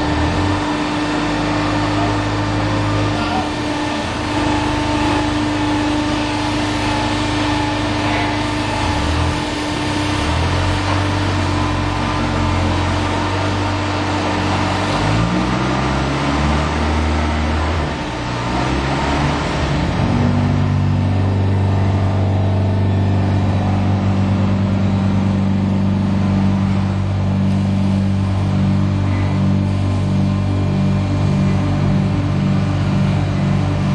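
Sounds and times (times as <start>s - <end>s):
pipe making machine motor hum: 0.0s - 33.9s.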